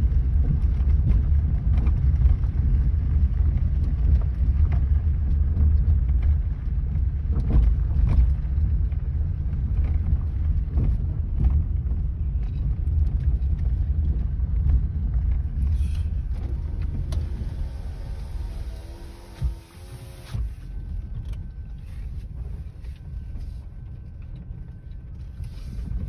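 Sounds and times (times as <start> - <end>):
car road rumble: 0.0 - 26.0.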